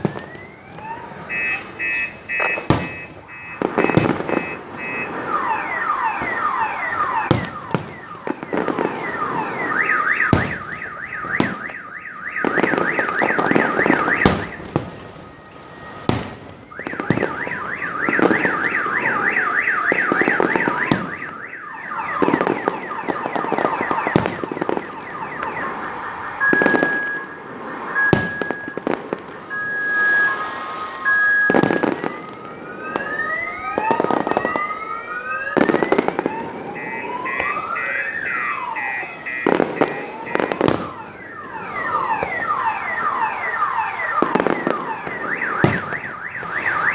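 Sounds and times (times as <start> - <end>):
car alarms wailing: 0.0 - 46.9
fireworks banging: 0.0 - 46.9
steady beeping alarm tone: 0.0 - 46.9.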